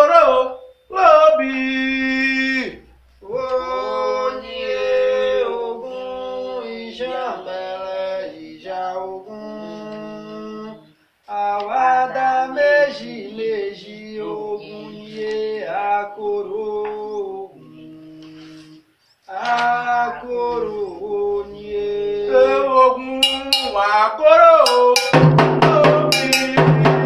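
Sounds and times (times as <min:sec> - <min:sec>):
person singing a chant: 0:00.0 - 0:27.0.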